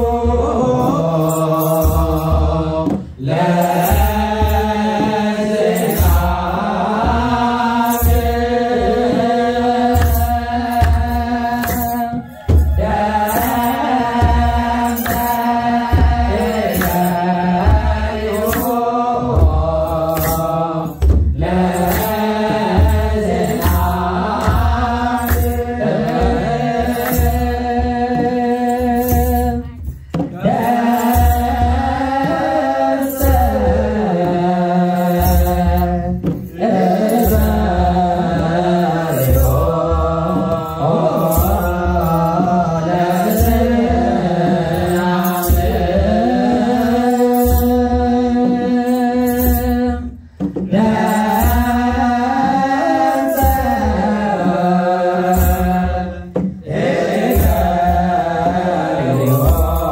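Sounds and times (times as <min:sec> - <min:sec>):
group singing a hymn: 0:00.0 - 0:59.9.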